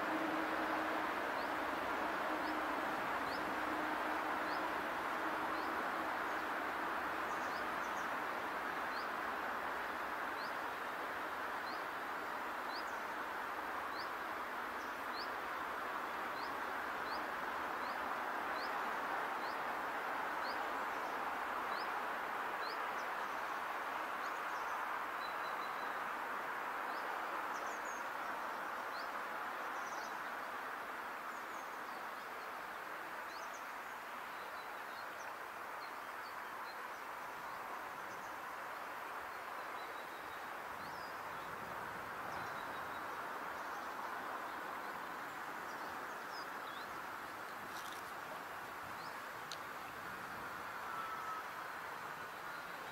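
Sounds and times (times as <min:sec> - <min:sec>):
rushing outdoor noise: 0:00.0 - 0:52.9.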